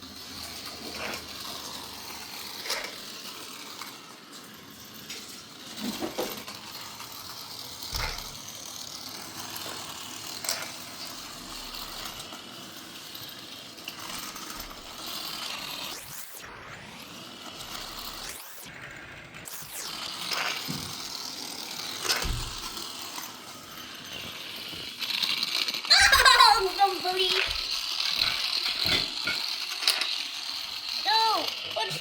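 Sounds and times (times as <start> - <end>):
toy car gears and wheels rattling: 0.0 - 32.0.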